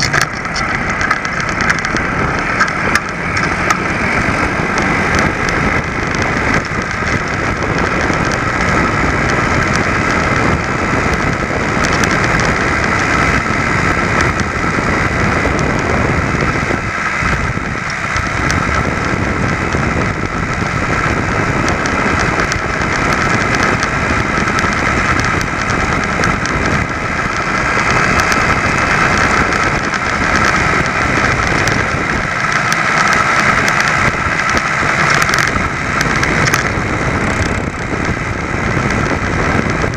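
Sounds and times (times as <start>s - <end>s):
two-stroke bicycle engine running: 0.0s - 39.9s.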